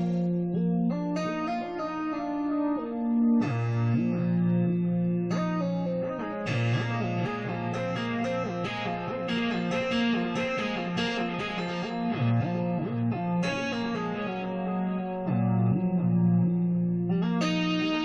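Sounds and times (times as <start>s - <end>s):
plucked guitar: 0.0s - 18.0s.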